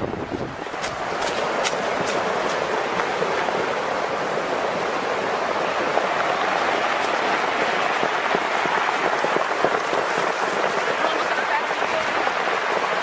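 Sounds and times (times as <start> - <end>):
flood water rushing: 0.0 - 13.0
rain pattering on surfaces: 0.2 - 13.0.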